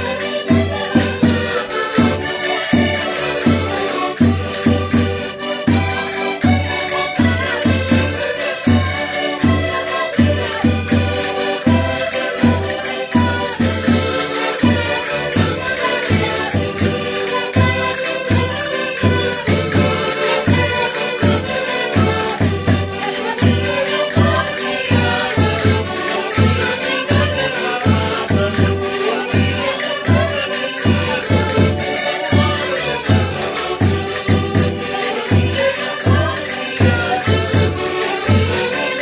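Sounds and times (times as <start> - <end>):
accordions playing folk dance tune: 0.0 - 39.0.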